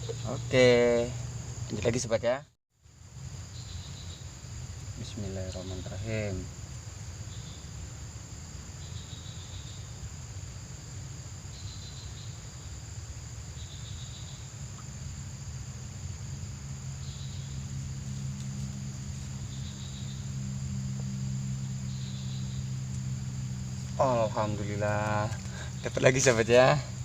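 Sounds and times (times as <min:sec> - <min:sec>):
insect chirp: 0:00.0 - 0:27.0
insects buzzing: 0:00.0 - 0:27.0
low steady hum: 0:02.9 - 0:27.0.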